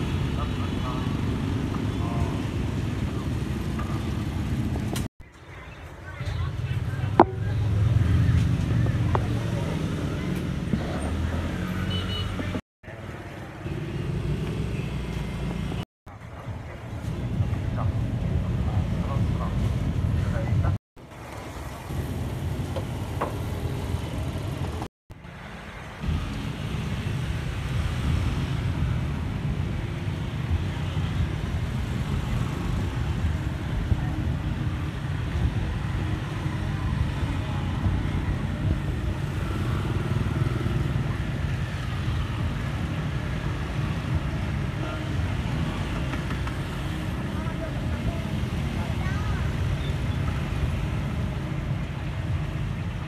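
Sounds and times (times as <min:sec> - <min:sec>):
motorbikes passing: 0:00.0 - 0:53.0
street traffic noise: 0:00.0 - 0:53.0.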